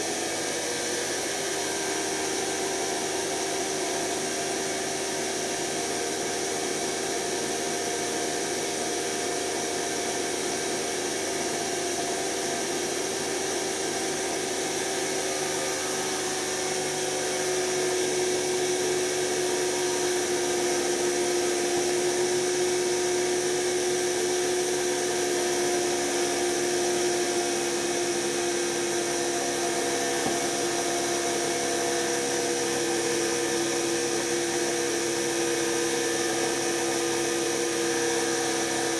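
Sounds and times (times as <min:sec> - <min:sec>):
washing machine motor whine: 0:01.6 - 0:38.9.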